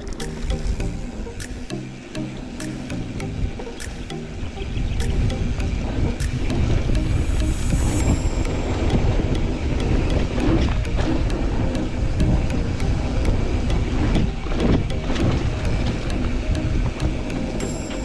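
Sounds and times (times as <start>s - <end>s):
wind buffeting microphone: 2.4s - 17.8s.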